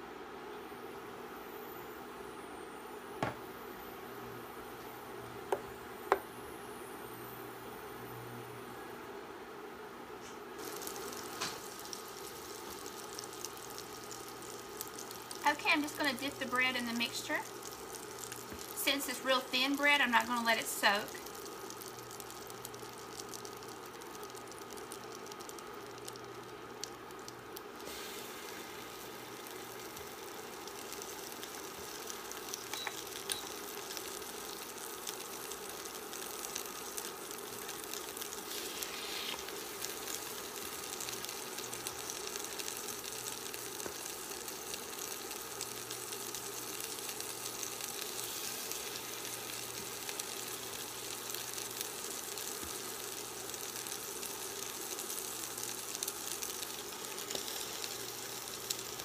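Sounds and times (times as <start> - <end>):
bread frying in butter: 10.5 - 59.0.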